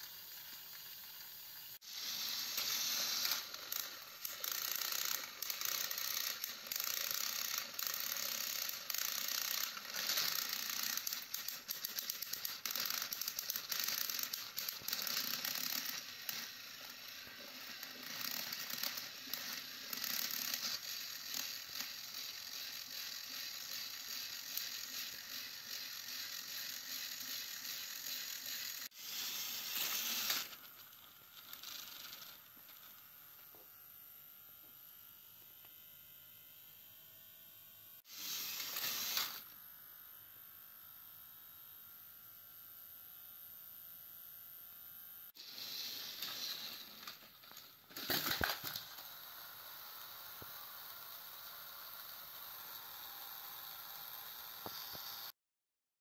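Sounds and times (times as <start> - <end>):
toy train motor whirring: 0.0 - 55.4.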